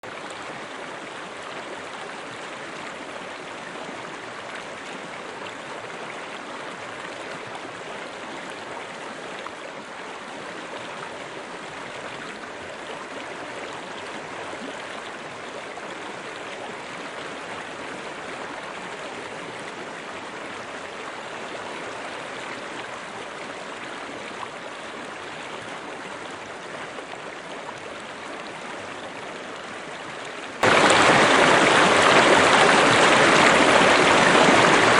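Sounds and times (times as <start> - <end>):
river water rushing and babbling: 0.0 - 34.9.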